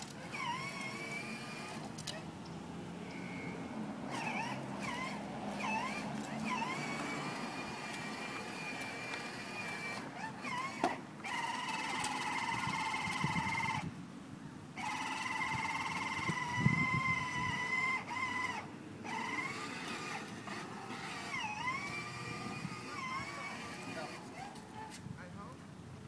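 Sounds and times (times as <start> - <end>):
electric motor and gearbox whining: 0.0 - 13.9, 14.8 - 24.9.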